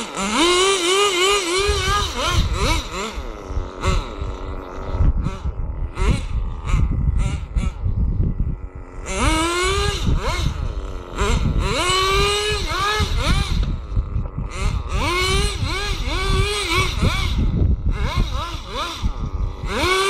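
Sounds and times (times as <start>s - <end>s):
toy car motor whining: 0.0s - 7.9s, 8.6s - 20.0s.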